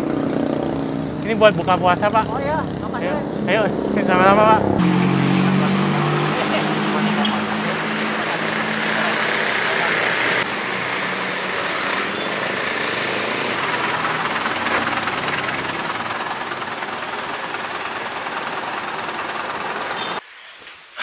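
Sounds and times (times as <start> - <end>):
vehicles passing close by: 0.0 - 20.2
road noise: 0.0 - 20.3.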